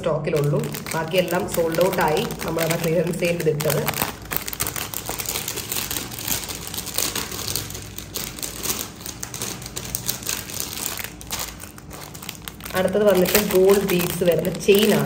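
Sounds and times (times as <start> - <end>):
plastic packets crinkling: 0.3 - 15.0.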